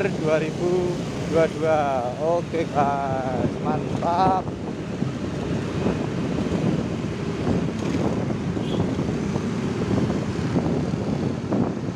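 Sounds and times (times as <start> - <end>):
road traffic rumble: 0.0 - 11.9
wind buffeting microphone: 0.0 - 11.9.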